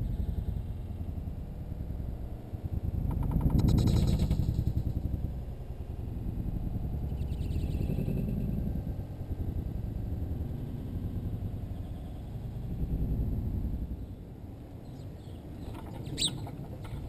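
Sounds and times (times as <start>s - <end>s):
deep continuous rumble: 0.0s - 17.0s.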